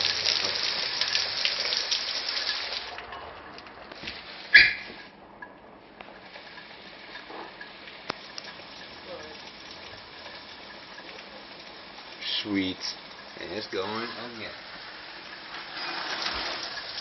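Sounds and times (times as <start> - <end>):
hard rain falling: 0.0 - 5.1, 6.1 - 17.0.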